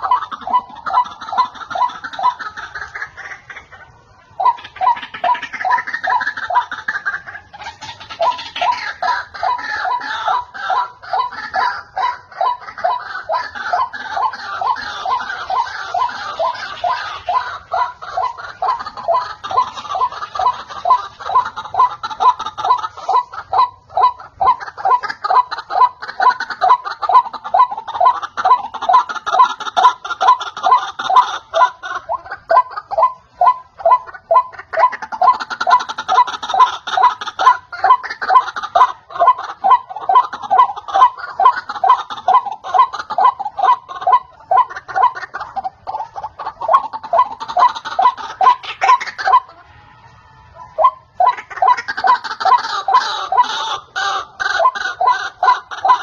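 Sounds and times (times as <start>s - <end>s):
waterhen calling: 0.0s - 56.0s.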